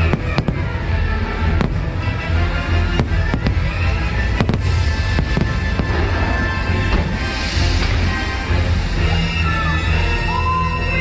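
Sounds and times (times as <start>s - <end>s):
fireworks bursting: 0.0s - 9.4s
music soundtrack: 0.0s - 11.0s.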